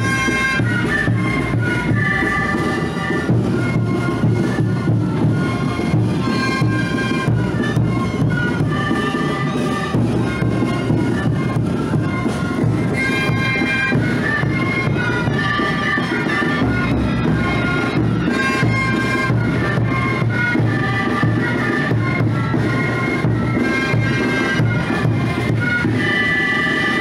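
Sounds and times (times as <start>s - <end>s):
reedy wind instruments melody: 0.0s - 27.0s
steady drum beat: 0.0s - 27.0s.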